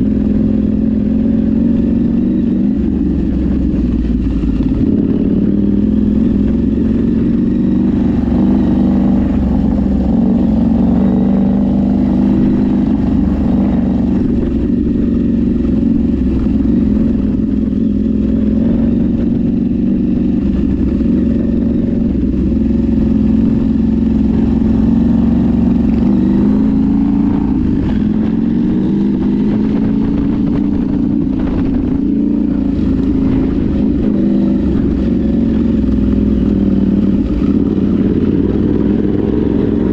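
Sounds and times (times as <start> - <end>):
vehicle engine under load: 0.0 - 39.9.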